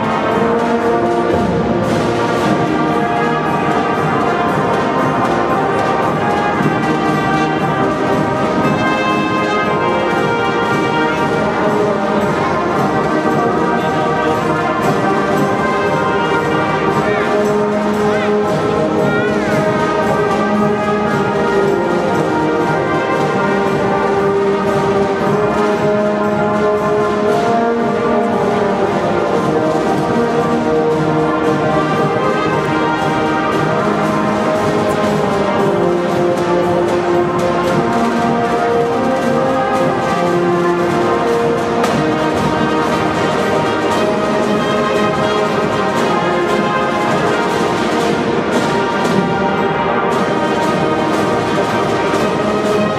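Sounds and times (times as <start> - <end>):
brass instruments playing: 0.0 - 52.9
marching drums: 0.0 - 52.9.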